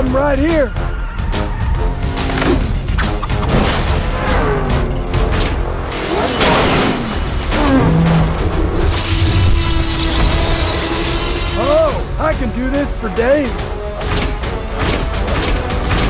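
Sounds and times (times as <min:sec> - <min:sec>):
action cartoon music: 0:00.0 - 0:16.0.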